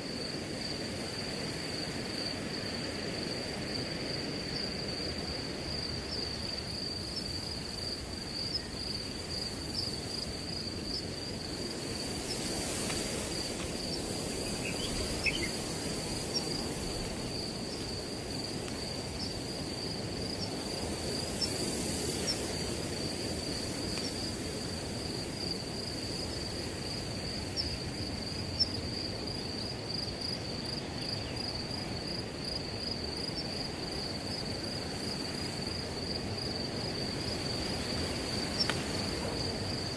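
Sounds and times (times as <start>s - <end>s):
crickets trilling: 0.0s - 39.9s
wind rustling through grass: 0.0s - 39.9s.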